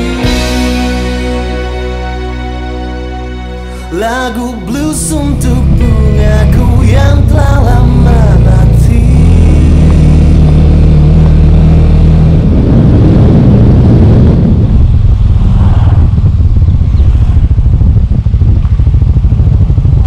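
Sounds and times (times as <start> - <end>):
motorcycle engine running: 0.0 - 1.6, 4.7 - 20.0.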